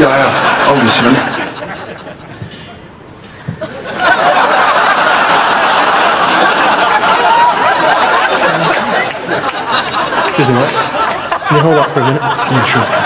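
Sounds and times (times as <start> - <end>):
audience laughing: 0.0 - 2.6, 3.4 - 13.0.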